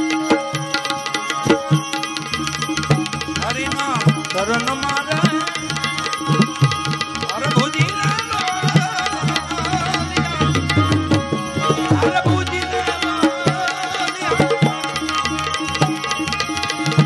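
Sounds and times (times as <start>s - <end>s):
harmonium: 0.0s - 17.0s
tabla playing: 0.0s - 17.0s
man singing: 3.0s - 17.0s.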